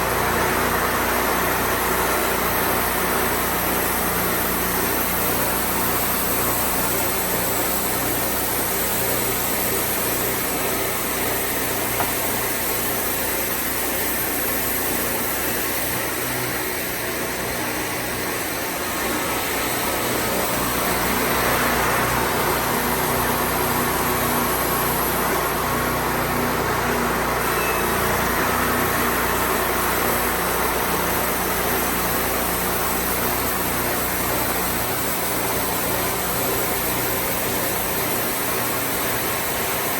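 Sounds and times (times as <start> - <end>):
sawmill engine droning: 0.0 - 39.9.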